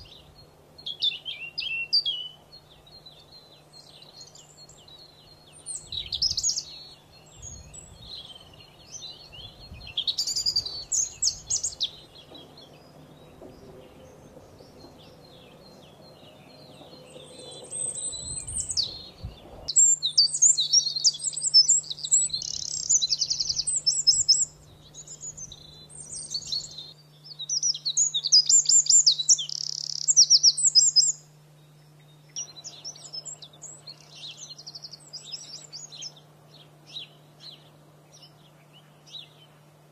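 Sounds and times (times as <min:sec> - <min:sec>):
canary singing with trills: 0:00.0 - 0:39.7.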